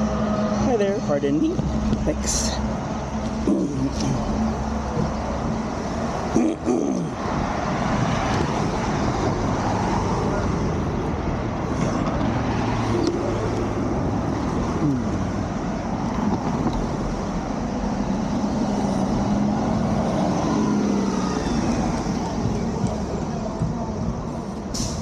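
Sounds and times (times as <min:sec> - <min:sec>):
passing vehicle engines humming: 0:00.0 - 0:25.0
street traffic noise: 0:00.0 - 0:25.0.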